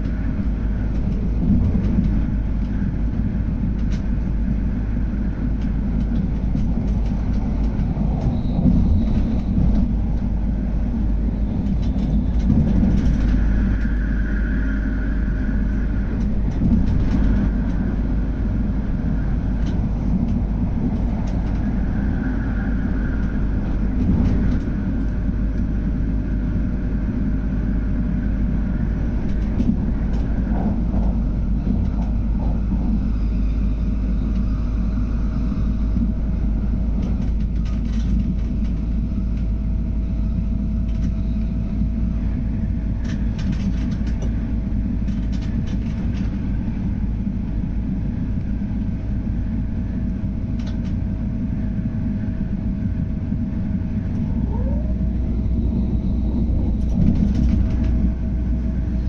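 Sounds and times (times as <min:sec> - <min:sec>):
wheels rumbling on rail: 0:00.0 - 0:59.0.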